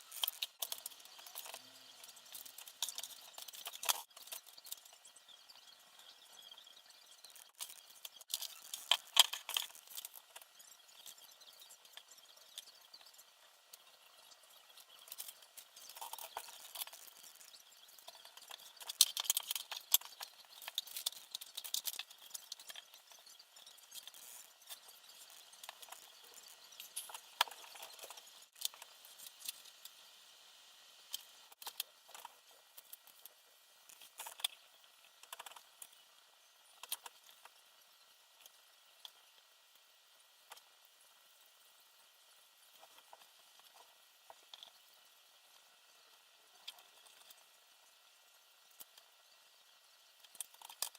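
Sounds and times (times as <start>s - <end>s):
small parts and tools clicking: 0.0s - 30.0s, 31.0s - 50.9s.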